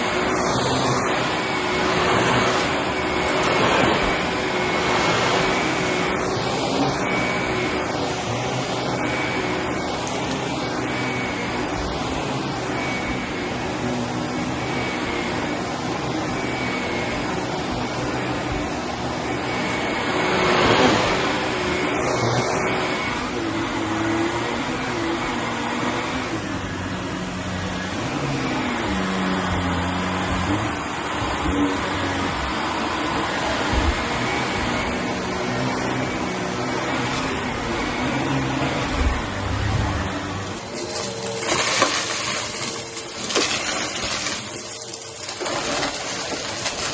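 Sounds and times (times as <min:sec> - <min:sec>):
vacuum cleaner motor droning: 0:00.0 - 0:46.9.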